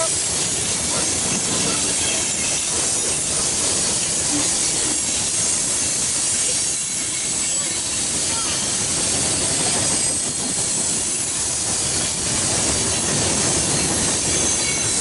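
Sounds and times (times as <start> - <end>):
steel wheels on rail: 0.0 - 15.0.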